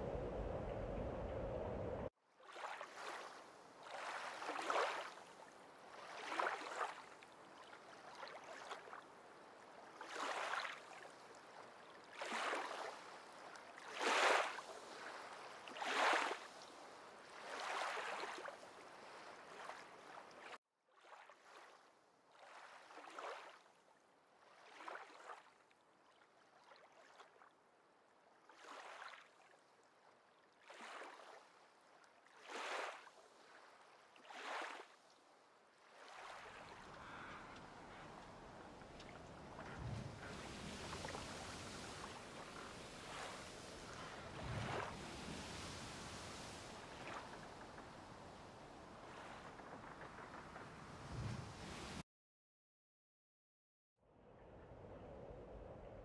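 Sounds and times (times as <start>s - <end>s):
water lapping against shore: 0.0s - 52.0s.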